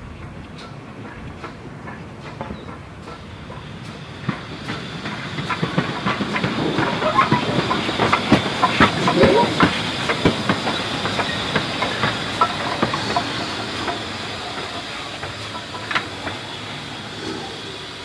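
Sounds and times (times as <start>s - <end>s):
wheels clanking over rail joints: 0.0s - 18.0s
steam hissing: 1.4s - 18.0s.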